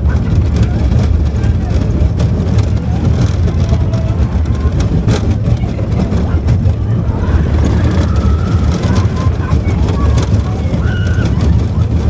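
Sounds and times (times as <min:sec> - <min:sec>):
roller coaster rumbling: 0:00.0 - 0:12.0.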